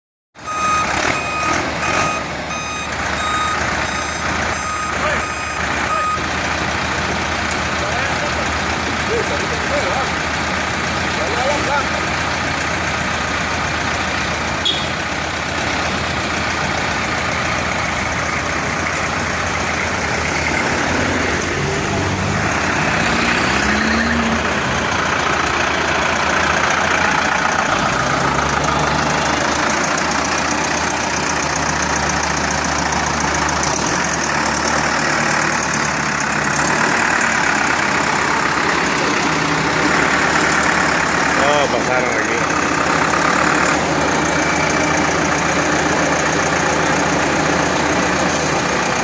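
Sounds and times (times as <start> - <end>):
tractor diesel engine idling: 0.4 - 49.0.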